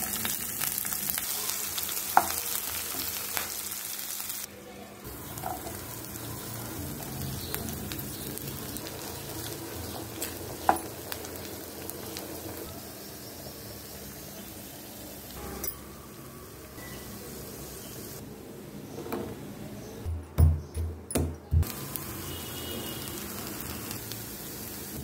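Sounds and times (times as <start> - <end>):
food sizzling in oil: 0.0 - 18.2, 21.6 - 25.0.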